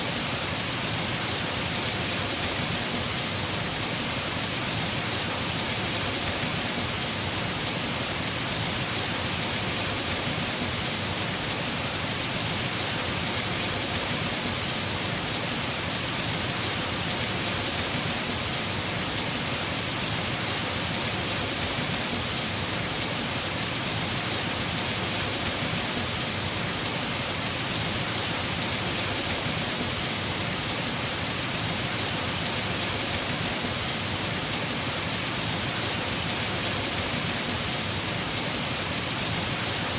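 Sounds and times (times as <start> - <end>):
heavy rain on roof: 0.0 - 39.9.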